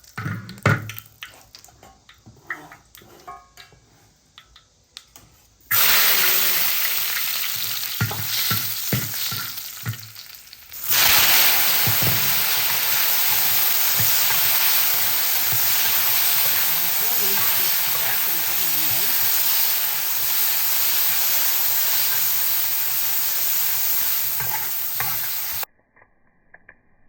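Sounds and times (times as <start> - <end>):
food sizzling in hot oil: 0.0 - 4.0, 5.6 - 25.7
spatula scraping a wok: 1.3 - 4.3, 5.2 - 10.0, 10.8 - 25.7.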